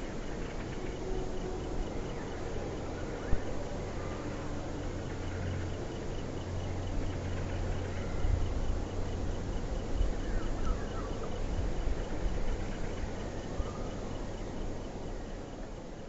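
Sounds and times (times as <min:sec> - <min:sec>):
insect chirping: 0:00.0 - 0:16.0
train rumbling: 0:00.0 - 0:16.0.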